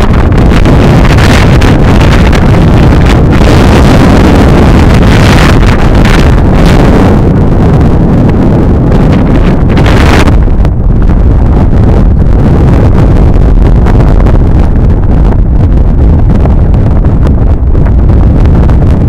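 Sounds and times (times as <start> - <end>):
gusty wind buffeting microphone: 0.0 - 19.0.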